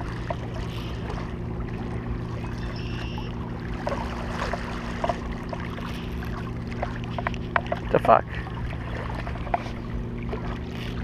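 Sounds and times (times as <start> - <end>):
motor drone: 0.0 - 11.0.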